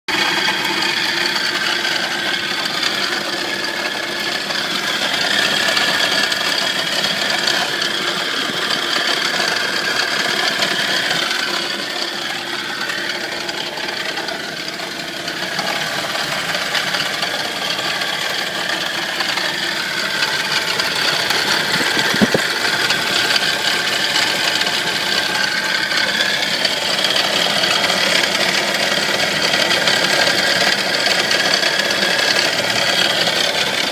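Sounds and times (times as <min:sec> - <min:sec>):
car engine idling with rattle: 0:00.1 - 0:33.9.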